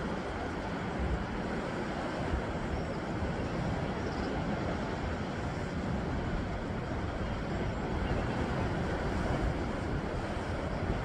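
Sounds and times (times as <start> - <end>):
sea surf washing over rocks: 0.0 - 11.0
wind rumble on microphone: 0.0 - 11.0.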